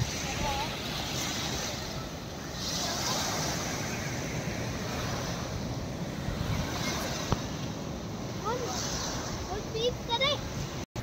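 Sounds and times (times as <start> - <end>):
small waves breaking on beach: 0.0 - 10.8
wind rumbling on microphone: 0.0 - 11.0.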